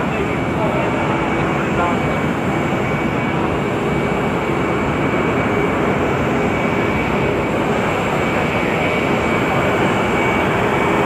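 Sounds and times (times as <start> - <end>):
aircraft engine rush: 0.0 - 11.0.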